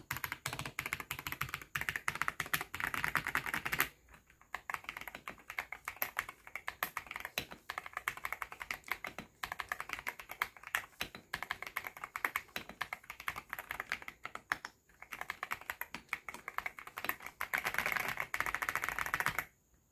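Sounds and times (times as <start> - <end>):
mechanical keyboard typing: 0.0 - 19.6.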